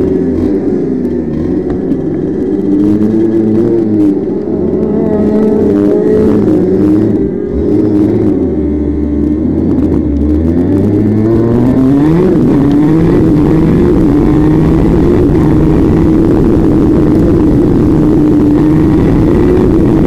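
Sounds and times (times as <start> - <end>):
small racing engine revving: 0.0 - 20.0.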